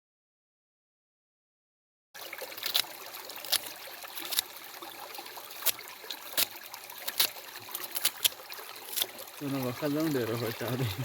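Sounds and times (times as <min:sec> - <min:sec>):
water trickling: 0:02.2 - 0:11.0.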